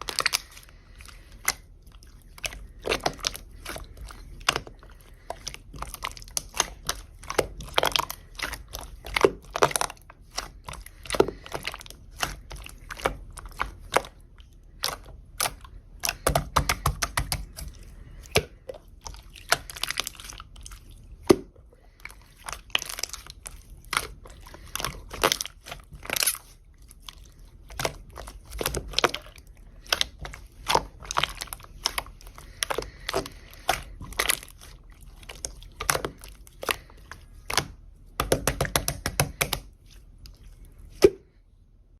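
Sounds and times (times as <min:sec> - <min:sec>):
slime squishing: 0:00.0 - 0:41.9.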